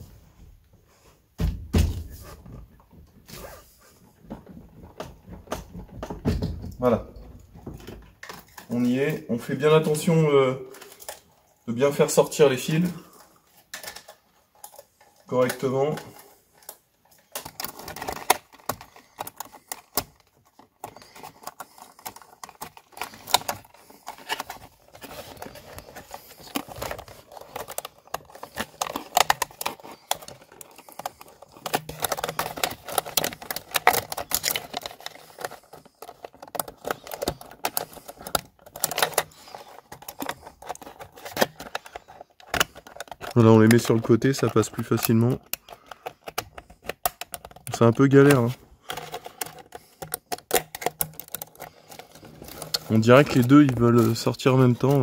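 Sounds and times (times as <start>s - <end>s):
plastic and metal clicks and rattles: 4.2s - 9.2s, 9.8s - 55.0s.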